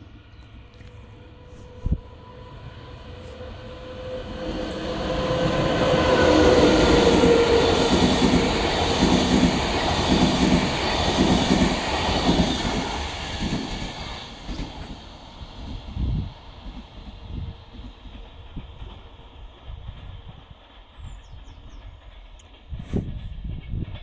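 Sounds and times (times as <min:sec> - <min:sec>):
passenger train passing: 0:00.0 - 0:24.0.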